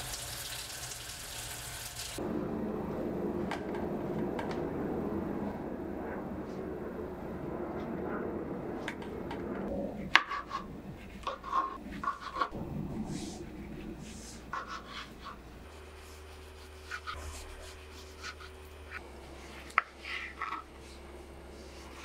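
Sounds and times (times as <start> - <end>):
low steady hum: 2.2 - 22.0.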